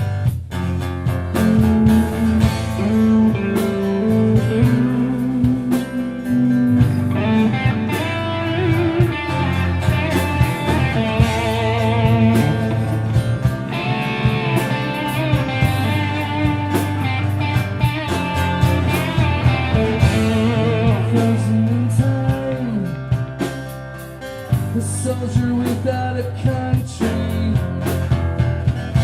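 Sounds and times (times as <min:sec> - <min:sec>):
instrumental rock band music: 0:00.0 - 0:29.0
lead guitar bending notes: 0:00.6 - 0:24.7.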